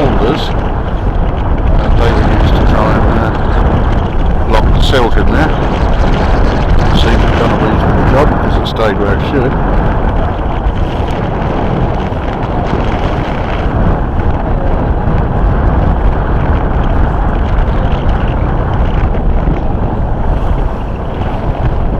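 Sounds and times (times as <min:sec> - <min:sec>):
wind blowing across microphone: 0:00.0 - 0:21.9.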